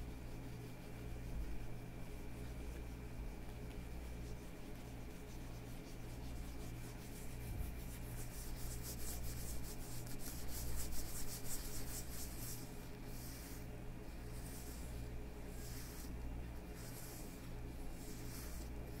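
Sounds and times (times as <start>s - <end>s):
leather gloves rubbing together: 0.3s - 19.0s.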